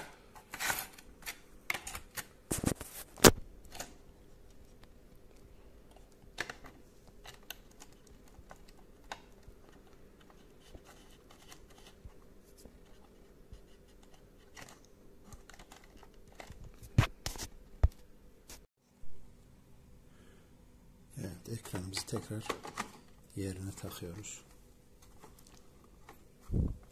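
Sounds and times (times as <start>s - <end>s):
plastic parts clicking and scraping: 0.0s - 4.9s, 5.8s - 17.5s, 21.5s - 26.9s.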